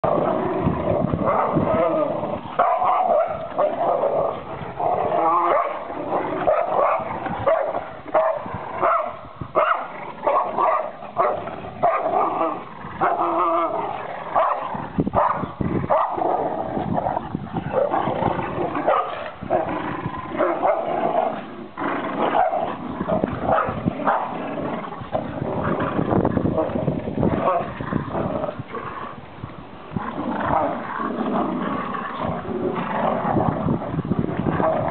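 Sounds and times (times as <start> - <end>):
dogs growling and barking: 0.0 - 34.9.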